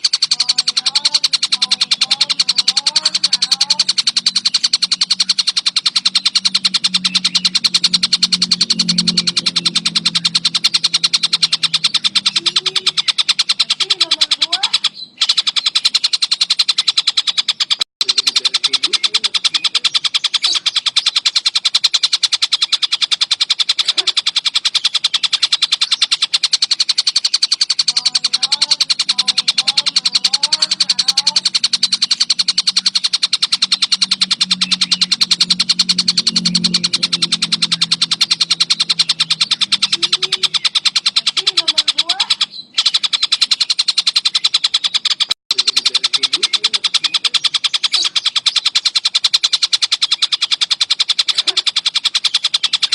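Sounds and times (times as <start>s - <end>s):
bird high-pitched trill: 0.0s - 52.9s.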